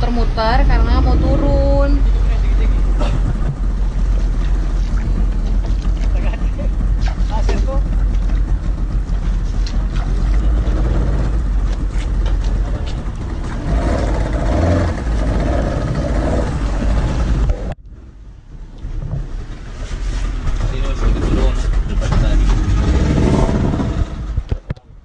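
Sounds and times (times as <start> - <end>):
low motor rumble: 0.0 - 25.0
wind noise on microphone: 0.0 - 25.0.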